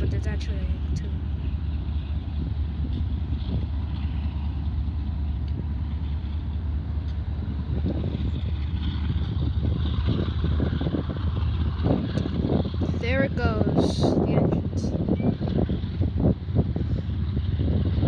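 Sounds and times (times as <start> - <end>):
locomotive low rumble: 0.0 - 18.0.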